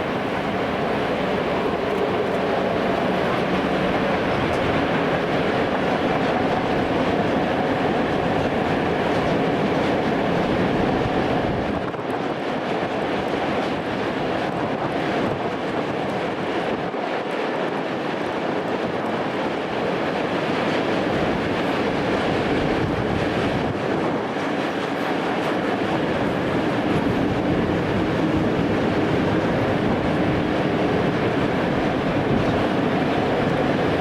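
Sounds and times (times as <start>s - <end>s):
clickety-clack over rail joints: 0.0s - 34.0s
train wheels rumbling on rail: 0.0s - 34.0s.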